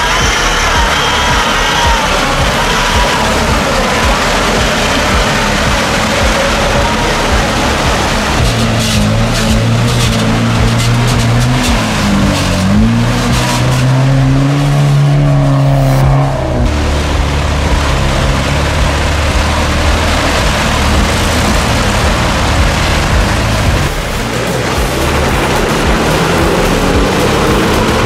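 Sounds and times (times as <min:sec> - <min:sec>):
constant rushing noise: 0:00.0 - 0:28.0
off-road vehicle engine revving high: 0:00.0 - 0:28.0.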